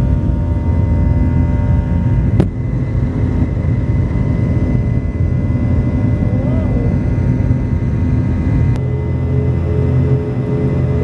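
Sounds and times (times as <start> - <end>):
airliner engines rumbling: 0.0 - 11.0
faint engine whine: 0.0 - 11.0.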